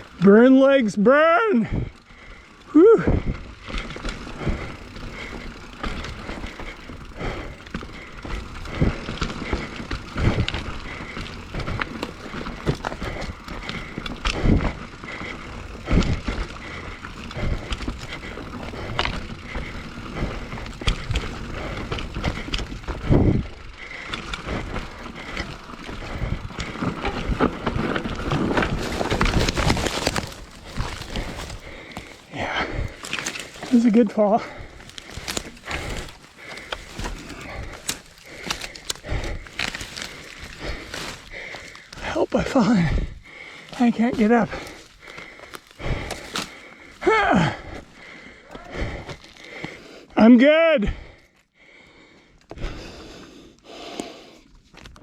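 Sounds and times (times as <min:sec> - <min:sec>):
bike knocking and rattling: 0:00.0 - 0:50.1
bike tyres on dirt trail: 0:00.0 - 0:55.0.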